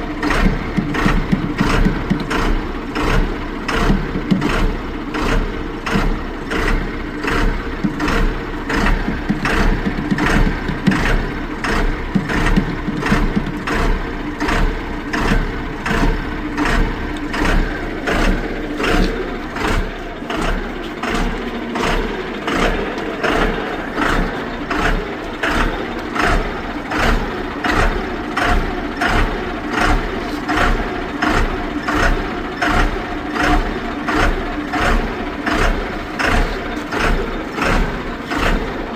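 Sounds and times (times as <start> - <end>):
car engine idling with surges: 0.0 - 38.9.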